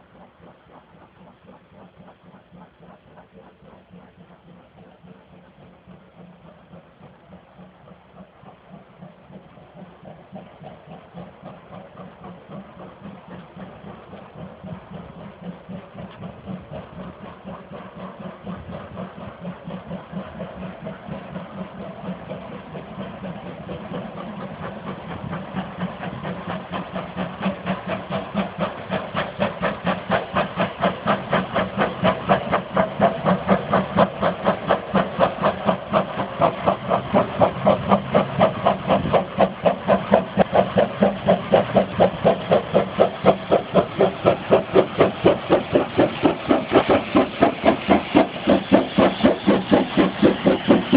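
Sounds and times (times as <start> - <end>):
steam hiss: 0.0 - 50.9
steam locomotive chuffing: 0.0 - 50.9.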